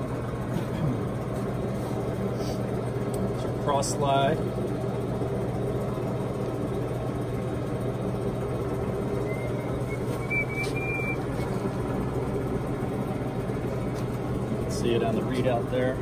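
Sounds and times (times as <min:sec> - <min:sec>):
lathe mechanical hum: 0:00.0 - 0:16.0.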